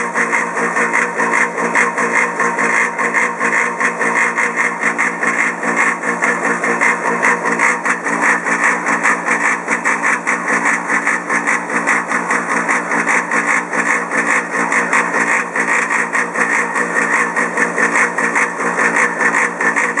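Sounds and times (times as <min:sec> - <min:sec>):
pool pump running: 0:00.0 - 0:20.0.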